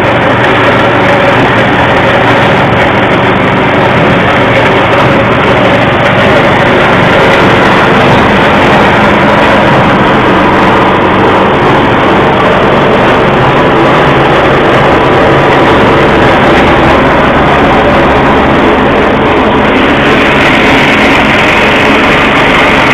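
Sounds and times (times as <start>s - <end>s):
feed chopper running: 0.0s - 22.9s.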